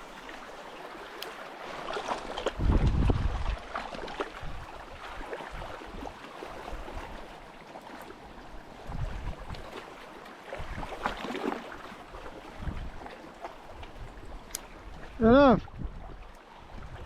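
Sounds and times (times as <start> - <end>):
sea water surging over rocks: 0.0 - 17.0.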